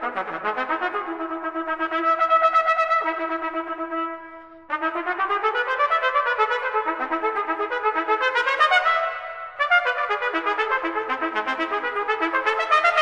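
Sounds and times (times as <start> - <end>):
trumpet playing fast notes: 0.1 - 13.0.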